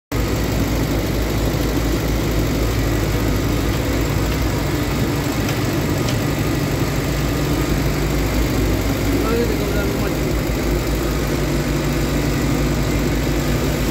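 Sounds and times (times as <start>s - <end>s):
excavator diesel engine running: 0.1s - 13.9s.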